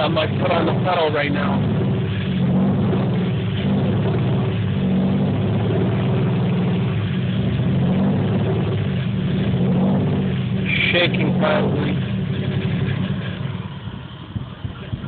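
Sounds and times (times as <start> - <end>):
car engine misfiring: 0.0 - 15.0.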